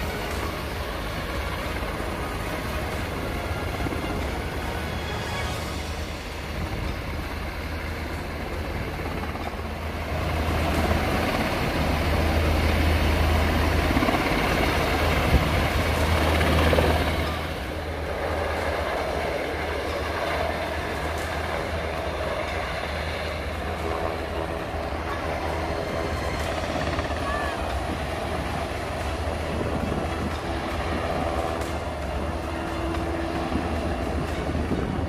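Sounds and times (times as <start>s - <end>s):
helicopter flying low overhead: 0.0s - 35.0s.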